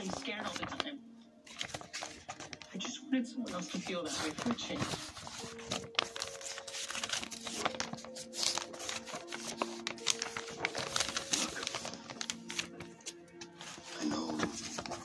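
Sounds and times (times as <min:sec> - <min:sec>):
paper pages rustling: 0:00.0 - 0:15.0
soft background music: 0:00.0 - 0:15.0.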